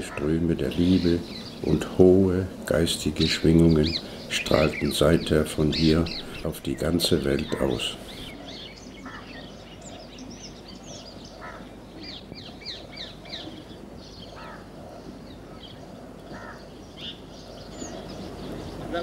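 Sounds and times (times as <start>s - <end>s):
birds chirping: 0.0s - 19.0s
steady low background noise: 0.0s - 19.0s.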